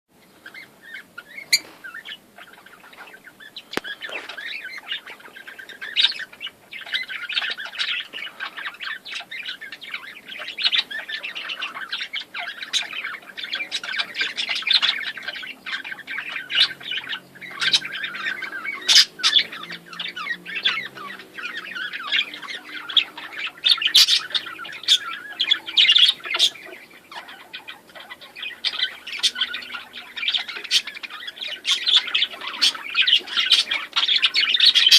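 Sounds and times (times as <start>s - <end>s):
small birds chirping and squawking: 0.2s - 34.9s.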